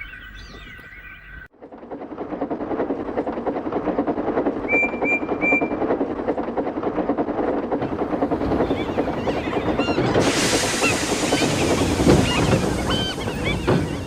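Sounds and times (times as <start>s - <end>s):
steam locomotive chuffing: 1.6s - 14.0s.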